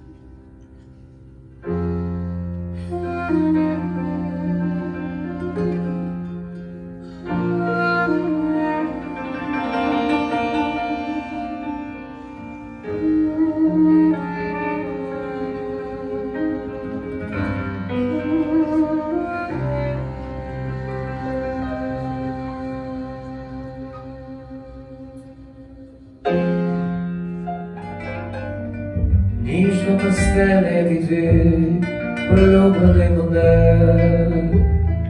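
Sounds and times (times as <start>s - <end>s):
double bass: 0.0s - 35.0s
piano: 0.0s - 35.0s.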